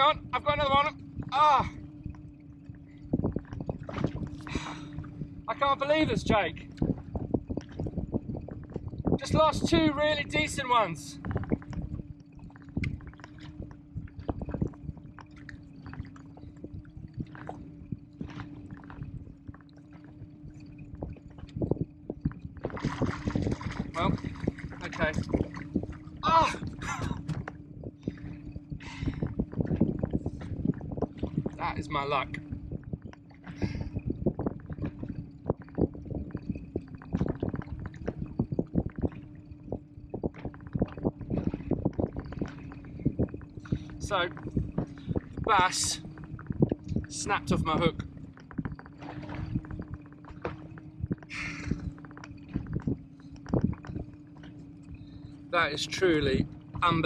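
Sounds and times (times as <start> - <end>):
steady low hum: 0.0 - 57.0
water sloshing against boat: 0.0 - 57.0.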